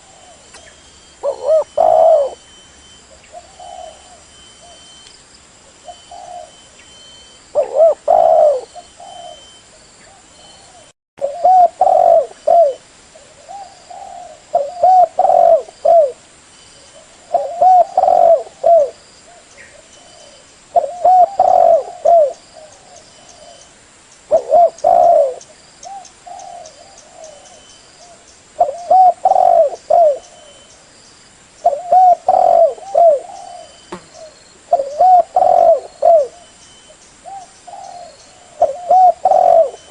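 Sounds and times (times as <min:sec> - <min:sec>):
dove cooing: 0:00.0 - 0:02.5, 0:03.1 - 0:04.9, 0:05.8 - 0:06.8, 0:07.5 - 0:16.2, 0:16.9 - 0:23.6, 0:24.3 - 0:30.7, 0:31.6 - 0:36.6, 0:37.2 - 0:39.9.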